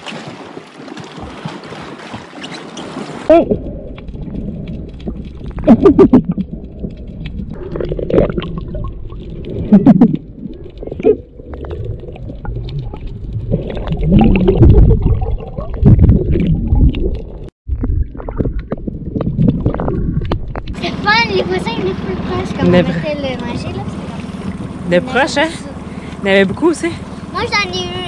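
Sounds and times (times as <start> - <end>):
underwater rumbling and gurgling: 0.0 - 28.0.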